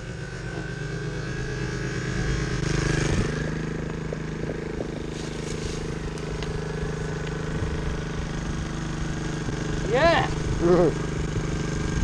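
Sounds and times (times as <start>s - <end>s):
small motorcycle engine idling: 0.0s - 12.0s.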